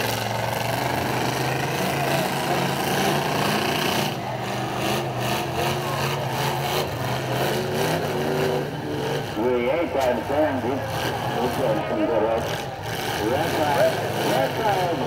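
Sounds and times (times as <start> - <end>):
car engines running: 0.0 - 15.0.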